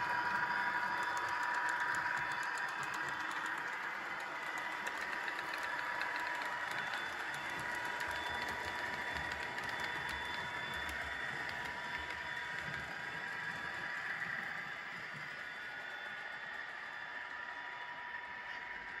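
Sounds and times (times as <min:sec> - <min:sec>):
model locomotive engine sound: 0:00.0 - 0:19.0
train wheels clicking on track: 0:00.0 - 0:19.0.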